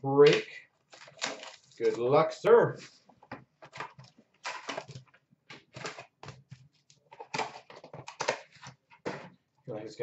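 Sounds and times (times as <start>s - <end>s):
cardboard and wrappers rustling: 0.3s - 9.5s.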